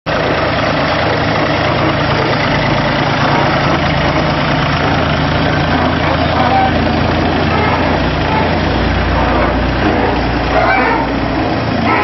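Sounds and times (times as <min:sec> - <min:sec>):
combine harvester running: 0:00.1 - 0:12.0.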